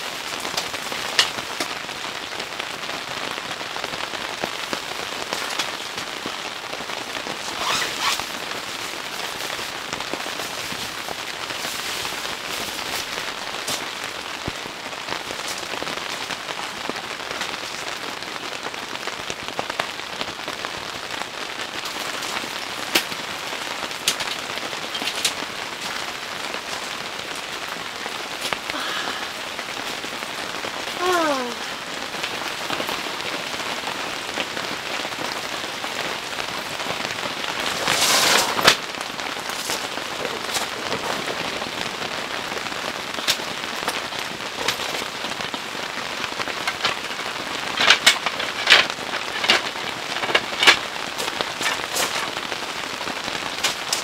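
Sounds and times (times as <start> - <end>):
rain falling on tent fabric: 0.0 - 54.0.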